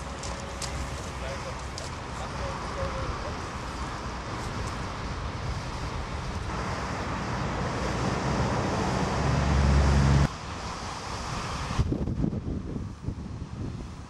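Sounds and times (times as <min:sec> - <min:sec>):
tram rumbling: 0:00.0 - 0:11.9
wind noise on microphone: 0:00.0 - 0:14.0.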